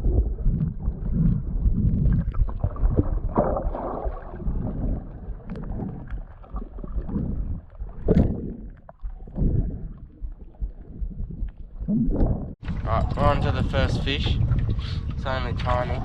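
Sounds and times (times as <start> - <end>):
water slapping boat: 0.0 - 16.0
wind buffeting: 0.0 - 16.0.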